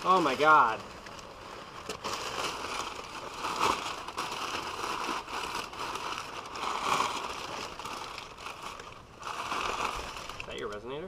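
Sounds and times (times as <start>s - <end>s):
packing paper crinkling and rustling: 0.0s - 11.0s.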